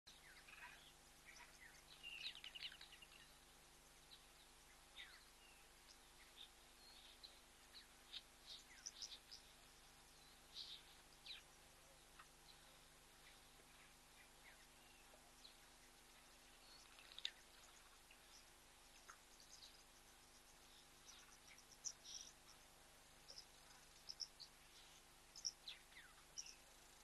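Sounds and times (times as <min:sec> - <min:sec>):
faint bird chirps and calls: 0:00.1 - 0:27.0.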